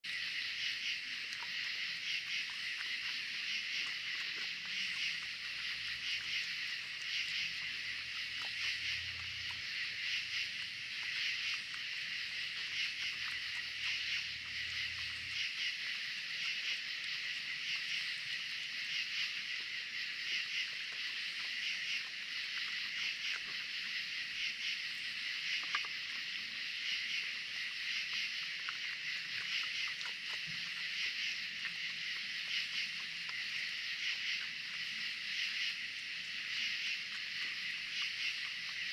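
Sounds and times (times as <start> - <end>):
night insects trilling: 0.0 - 38.9
raccoons chewing clicks: 0.1 - 38.9.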